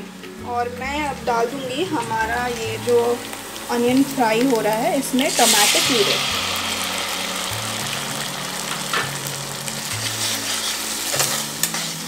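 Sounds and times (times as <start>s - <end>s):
food sizzling in hot oil: 1.0s - 12.0s.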